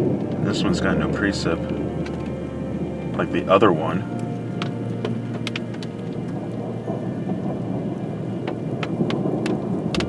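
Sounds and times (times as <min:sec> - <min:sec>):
rain drops ticking on car roof: 0:00.0 - 0:10.0
steady low rumble: 0:00.0 - 0:10.0.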